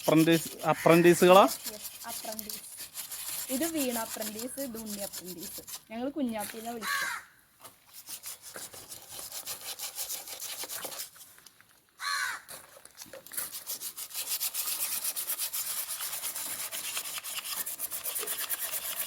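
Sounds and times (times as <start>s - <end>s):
sandpaper rubbing rust off steel: 0.0s - 6.9s, 7.9s - 11.3s, 13.3s - 19.0s.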